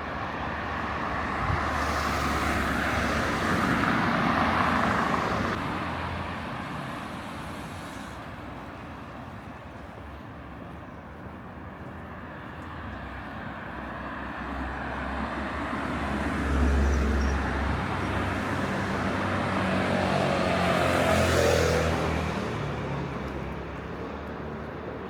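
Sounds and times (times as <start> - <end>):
engine and road noise: 0.0 - 25.0.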